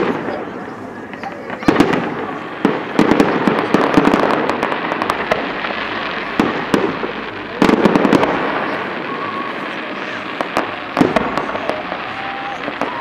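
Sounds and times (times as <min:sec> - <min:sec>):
fireworks bangs and crackling pops: 0:00.0 - 0:13.0.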